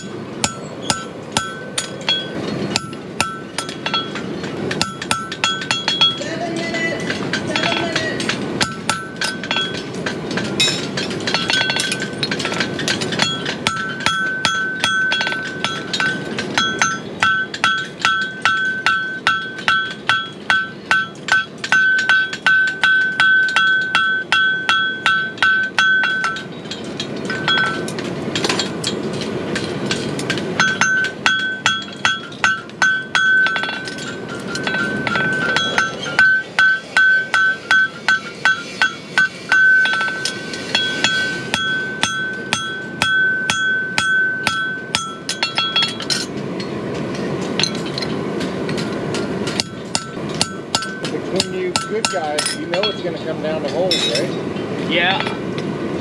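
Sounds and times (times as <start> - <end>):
hammer blows ringing on anvil: 0.0 - 26.6, 27.3 - 29.0, 29.6 - 46.3, 48.8 - 54.4.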